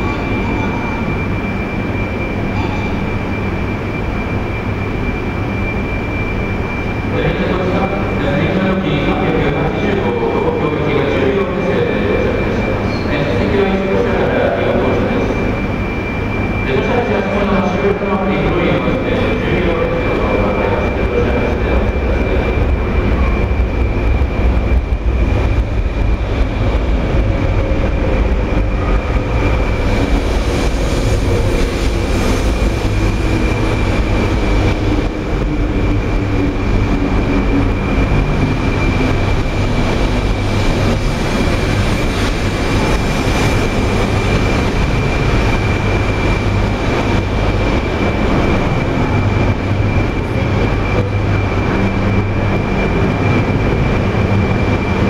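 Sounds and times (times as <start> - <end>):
heavy low rumble: 0.0 - 55.0
steady high tone: 0.0 - 55.0
train motor whine: 0.0 - 55.0.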